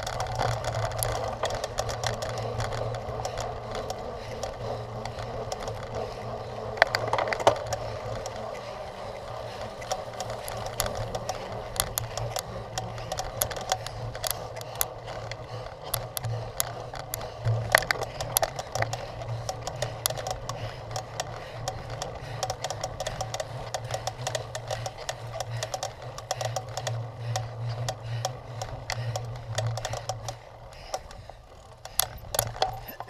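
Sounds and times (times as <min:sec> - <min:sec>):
bike clattering and ticking: 0:00.0 - 0:33.0
steady low hum: 0:00.0 - 0:33.0.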